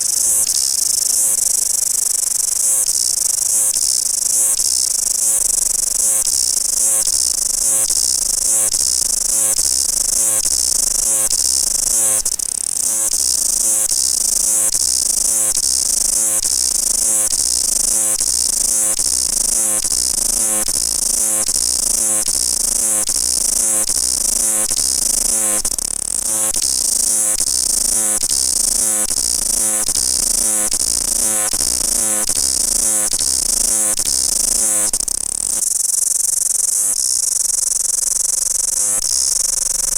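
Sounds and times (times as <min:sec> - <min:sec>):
cicadas chorus trilling: 0:00.0 - 0:39.9.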